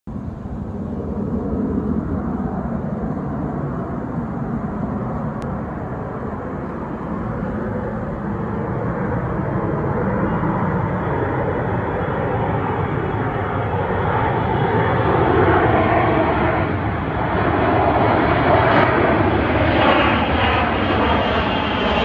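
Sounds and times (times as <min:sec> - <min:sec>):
distant jet engine rumble: 0:00.1 - 0:22.0.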